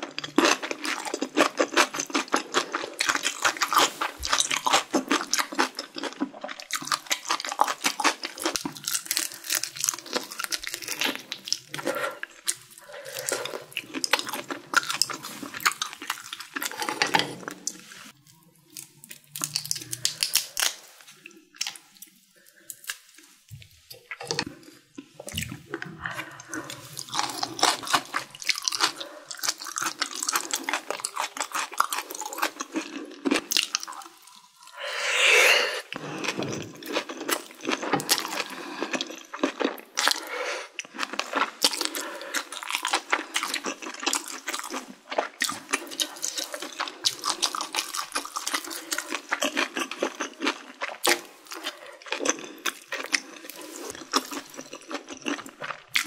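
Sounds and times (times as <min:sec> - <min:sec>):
wet chewing: 0:00.0 - 0:23.3, 0:23.9 - 0:34.9, 0:35.8 - 0:56.0
food crunching: 0:00.0 - 0:34.9, 0:35.8 - 0:56.0.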